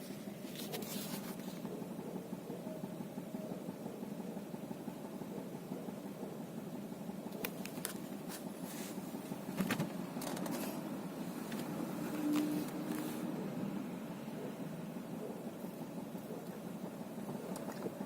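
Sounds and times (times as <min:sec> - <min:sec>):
car engine running with knock: 0:00.0 - 0:18.0.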